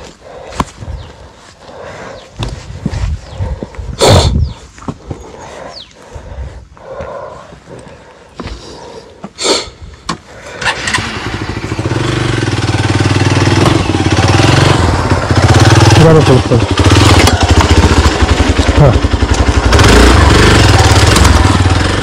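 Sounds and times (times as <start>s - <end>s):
motorcycle engine running: 0.0s - 6.4s, 10.4s - 22.0s.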